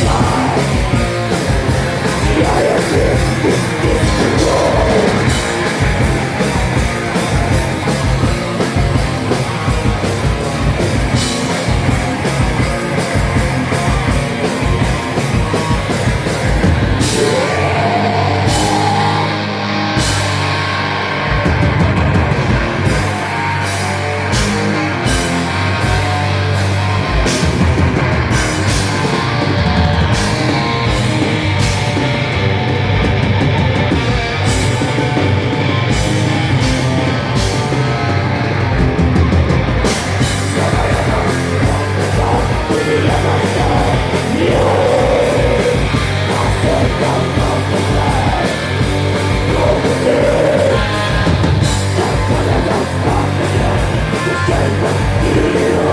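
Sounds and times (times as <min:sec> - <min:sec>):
distorted electric guitars: 0:00.0 - 0:55.9
drum kit: 0:00.0 - 0:55.9.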